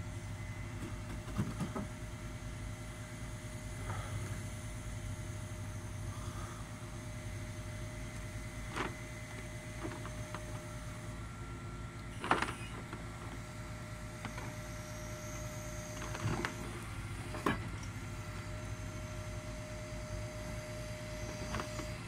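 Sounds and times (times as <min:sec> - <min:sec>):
hydraulic crane whine: 0:00.0 - 0:22.0
truck engine rumble: 0:00.0 - 0:22.0.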